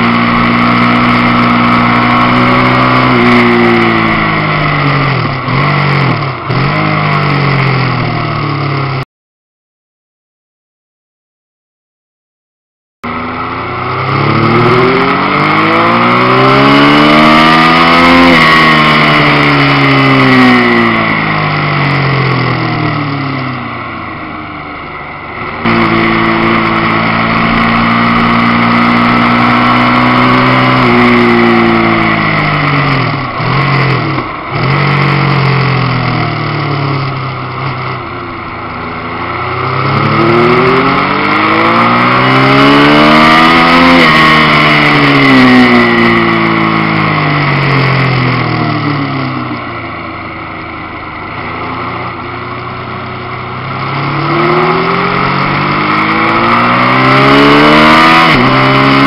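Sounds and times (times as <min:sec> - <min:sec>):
racing motorcycle engine revving: 0:00.0 - 0:09.0, 0:13.0 - 0:59.0.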